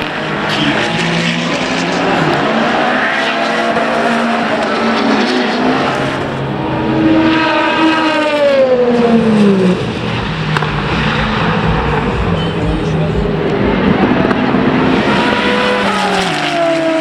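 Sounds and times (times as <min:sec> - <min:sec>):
race car passing loudly: 0:00.0 - 0:17.0
race cars running at speed: 0:00.0 - 0:17.0.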